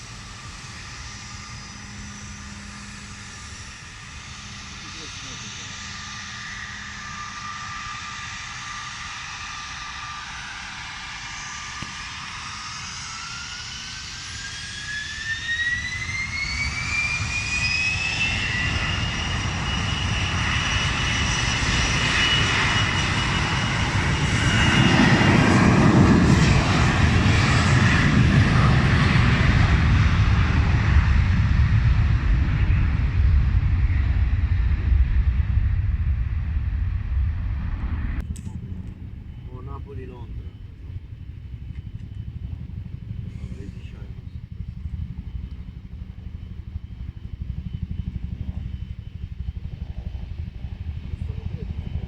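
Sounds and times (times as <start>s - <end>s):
jet engine whine: 0.0s - 52.0s
loud low jet rumble: 0.0s - 52.0s.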